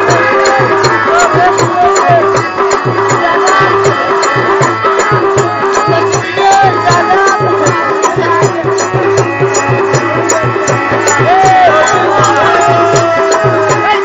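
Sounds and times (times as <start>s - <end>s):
dance music with drum beat: 0.0s - 14.0s.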